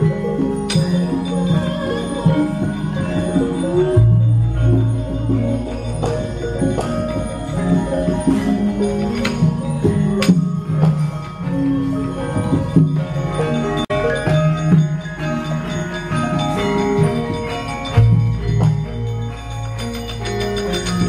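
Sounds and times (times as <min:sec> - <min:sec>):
gamelan playing: 0:00.0 - 0:21.0.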